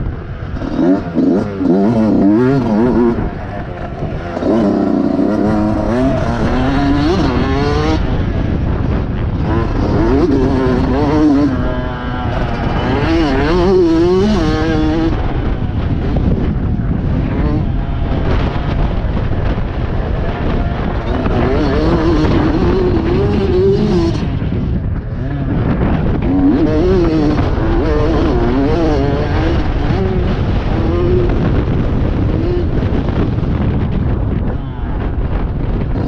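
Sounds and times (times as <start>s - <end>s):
motocross bike engine revving: 0.0s - 36.0s.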